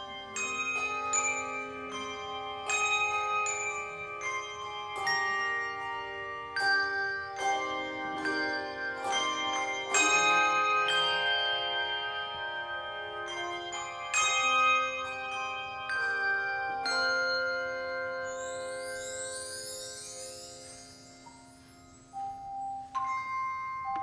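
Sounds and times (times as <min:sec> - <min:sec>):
handbell choir playing chords: 0:00.0 - 0:24.0.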